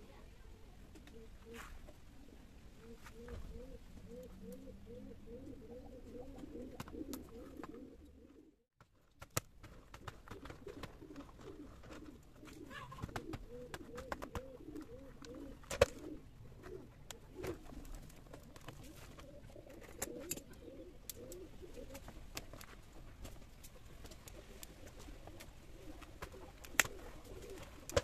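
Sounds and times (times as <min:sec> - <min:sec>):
dove cooing: 0:01.0 - 0:08.6, 0:10.3 - 0:22.1, 0:24.2 - 0:28.0.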